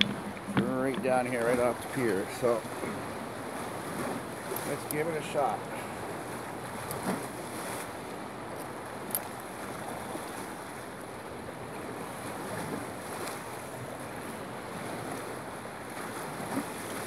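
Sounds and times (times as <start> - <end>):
waves washing against pier: 0.0 - 17.0
wind on microphone: 0.0 - 17.0.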